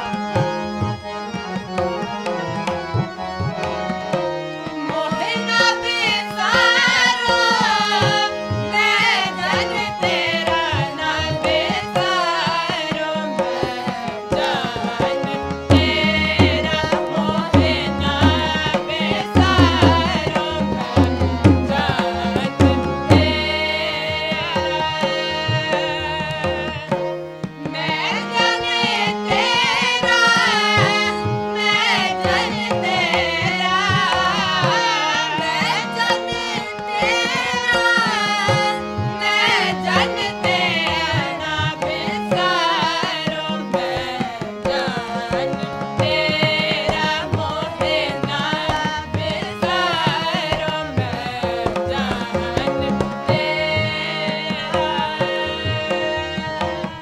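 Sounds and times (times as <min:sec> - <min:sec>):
harmonium chords: 0:00.0 - 0:57.0
voices singing together: 0:00.0 - 0:57.0
tabla drumming: 0:00.1 - 0:57.0.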